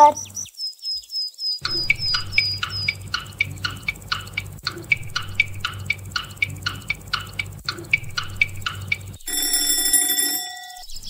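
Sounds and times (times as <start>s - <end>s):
clock-like timer ticks: 1.6s - 11.0s
low steady hum: 1.6s - 11.0s.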